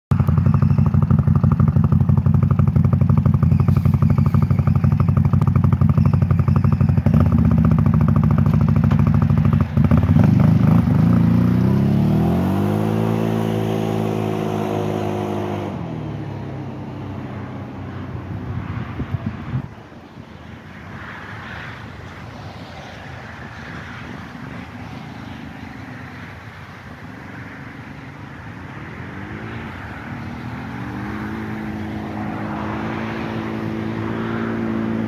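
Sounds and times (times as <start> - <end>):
atv engine idling and revving: 0.1 - 19.7, 23.3 - 35.0.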